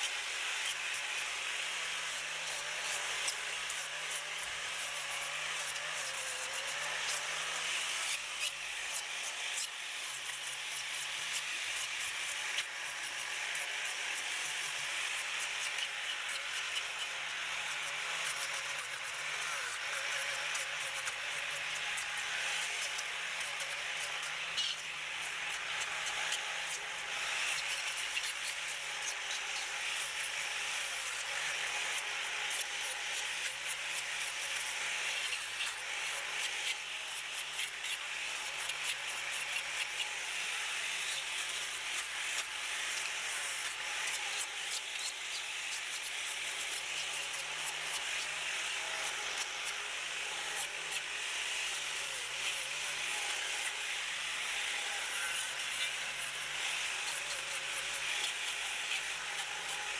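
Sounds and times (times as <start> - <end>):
grinder motor hum: 0.0 - 59.9
sanding disc hissing on wood: 0.0 - 59.9.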